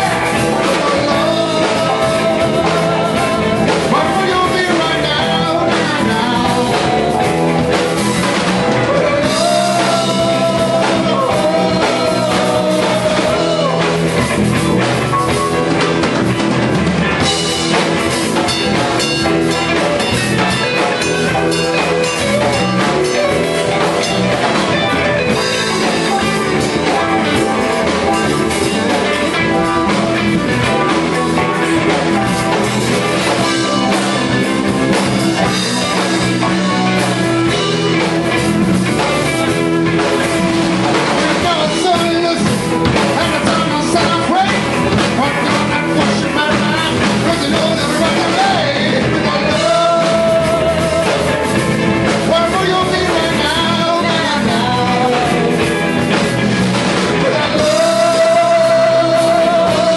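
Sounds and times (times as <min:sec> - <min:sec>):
man singing: 0:00.0 - 0:16.2, 0:17.2 - 0:59.9
live rock band: 0:00.0 - 0:59.9.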